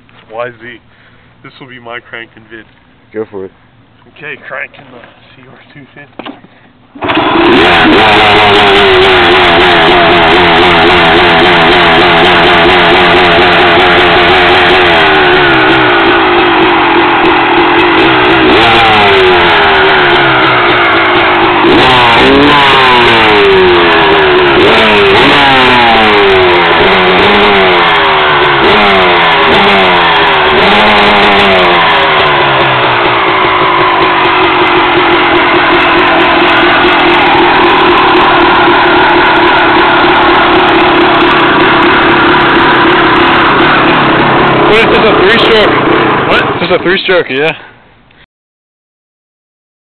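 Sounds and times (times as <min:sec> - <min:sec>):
motorcycle engine revving: 0:04.2 - 0:47.8.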